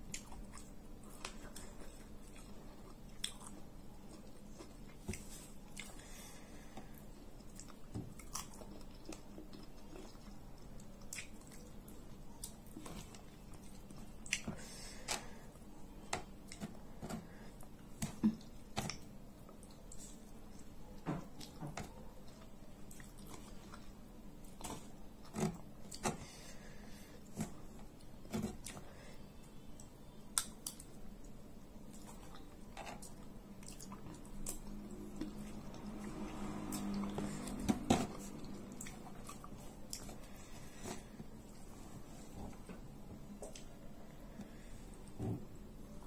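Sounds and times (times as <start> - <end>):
person chewing: 0.0 - 15.7, 16.4 - 41.9.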